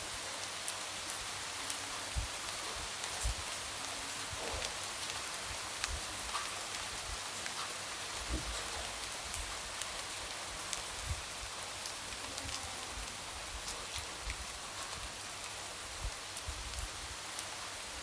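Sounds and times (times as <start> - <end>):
light rain on a window: 0.0 - 18.0.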